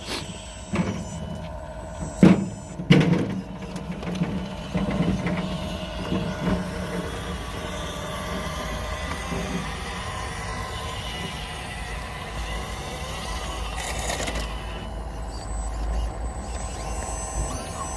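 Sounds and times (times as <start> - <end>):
small electric motors whining: 0.0 - 17.9.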